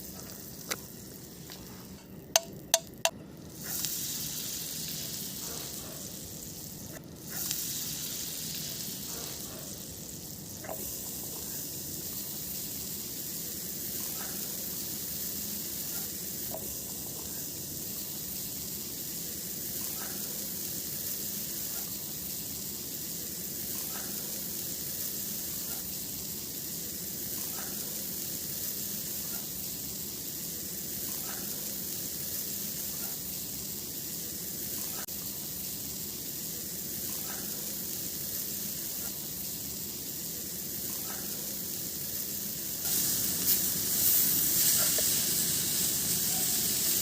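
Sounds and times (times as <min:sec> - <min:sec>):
food sizzling over a campfire: 0:00.0 - 0:47.0.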